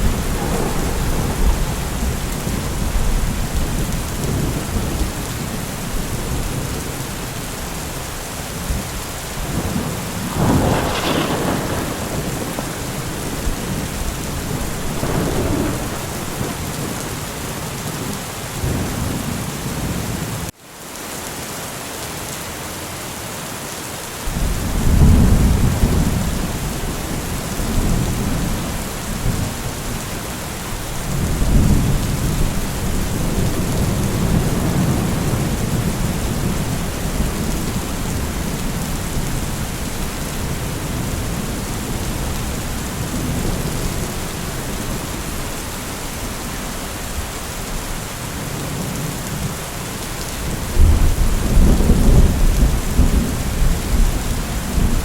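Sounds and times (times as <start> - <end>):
low rolling thunder: 0.0 - 8.0, 8.6 - 20.5, 24.3 - 47.4, 50.4 - 55.0
heavy rain: 0.0 - 55.0.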